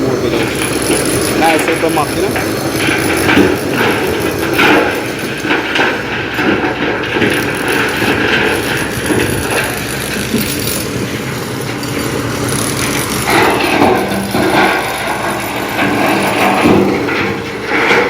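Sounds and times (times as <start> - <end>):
diesel truck engine running: 0.0 - 18.0
mechanical rattling: 0.0 - 18.0.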